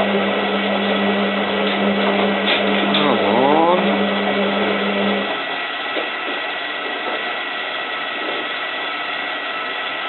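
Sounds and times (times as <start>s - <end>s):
low motor hum: 0.0s - 10.0s
water running into washing machine: 0.0s - 10.0s.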